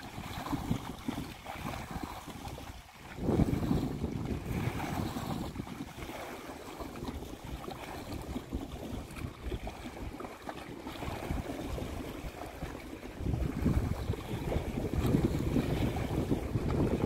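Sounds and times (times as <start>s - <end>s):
rippling river water: 0.0s - 17.0s
wind buffeting microphone: 0.0s - 17.0s.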